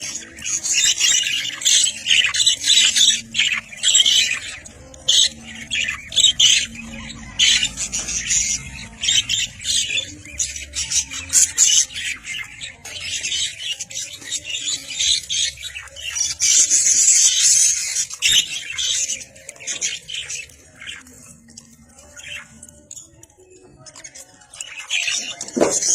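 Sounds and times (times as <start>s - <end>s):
budgerigars chattering and squawking: 0.0s - 25.9s.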